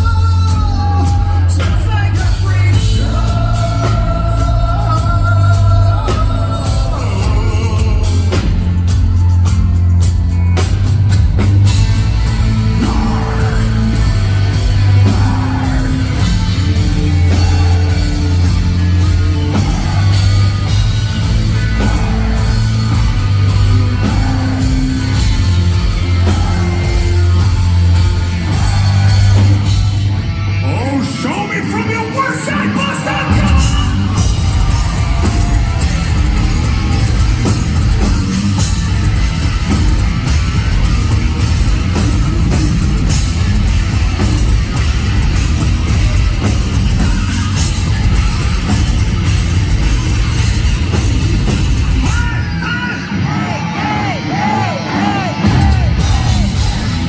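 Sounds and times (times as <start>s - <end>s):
vocals: 0.0s - 10.5s, 11.7s - 39.0s, 45.9s - 49.5s, 51.4s - 57.0s
distorted guitars: 0.0s - 57.0s
drums: 0.0s - 57.0s
heavy bass: 0.0s - 57.0s.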